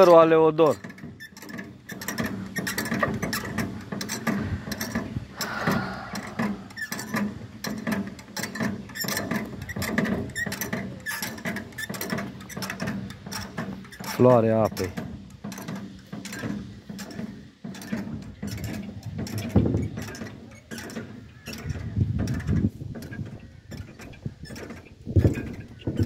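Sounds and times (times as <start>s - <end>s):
winch gears clicking and rattling: 0.0s - 5.4s, 6.8s - 26.0s.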